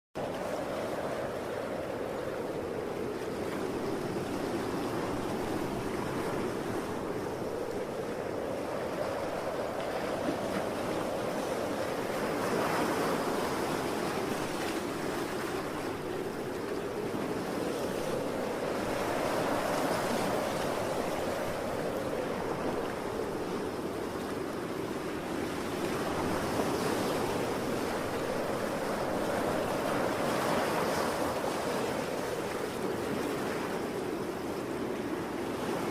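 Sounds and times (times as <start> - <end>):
ocean waves surging: 0.2 - 35.9
strong wind blowing: 0.2 - 35.9.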